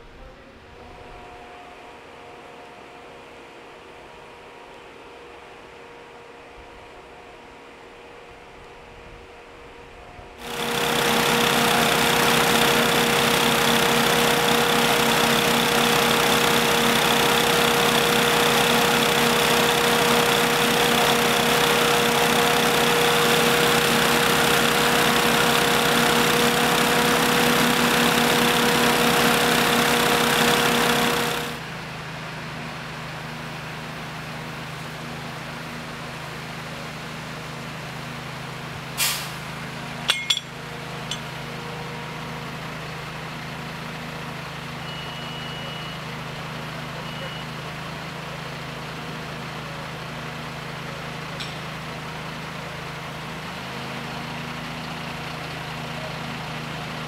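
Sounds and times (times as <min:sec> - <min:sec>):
idling engine hum: 0:08.3 - 0:57.0
engine-driven equipment running: 0:09.7 - 0:57.0.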